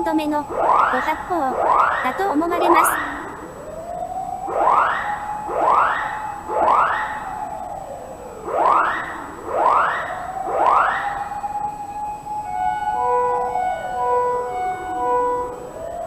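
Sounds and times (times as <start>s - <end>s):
fire alarm upward sweeping tones: 0.0s - 16.0s
siren rising and falling: 0.0s - 16.0s.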